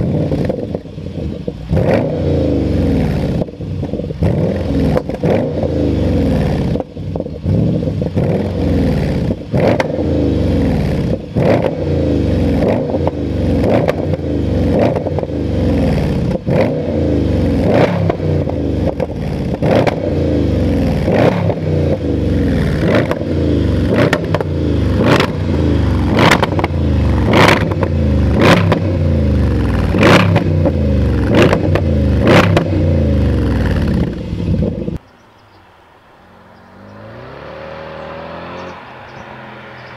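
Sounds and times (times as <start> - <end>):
exhaust crack: 0.0 - 35.0
car engine revving: 0.0 - 35.1, 35.7 - 39.9
steady engine whine: 0.0 - 39.9.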